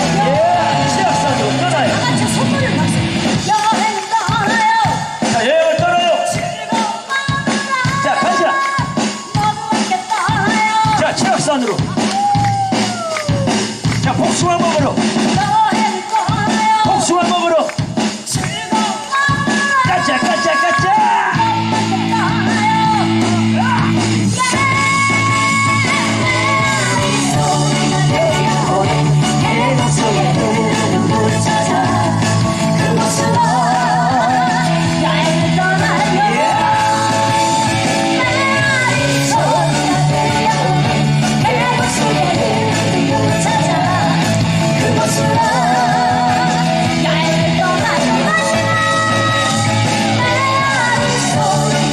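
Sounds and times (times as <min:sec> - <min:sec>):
person singing over a backing track: 0:00.0 - 0:51.9.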